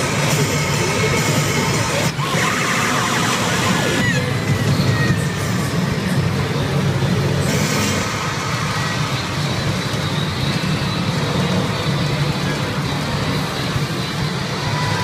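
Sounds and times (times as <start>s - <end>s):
pachinko parlor din: 0.0s - 15.0s.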